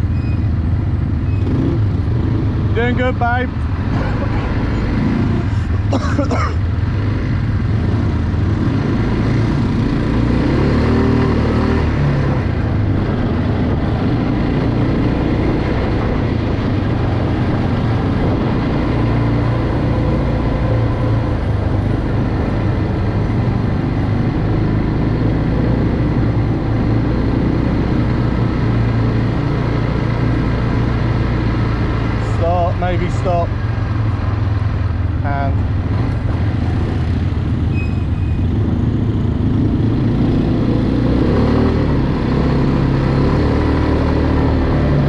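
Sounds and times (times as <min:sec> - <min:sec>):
rush of riding: 0:00.0 - 0:45.0.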